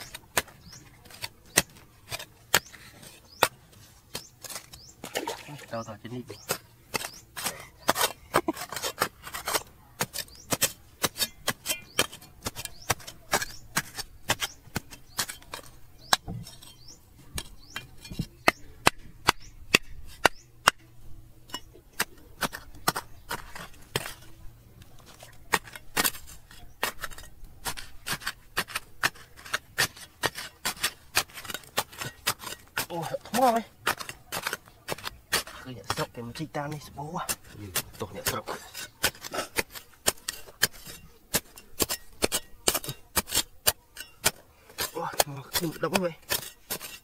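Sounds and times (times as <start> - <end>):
digging tool striking stone: 0.0 - 47.0.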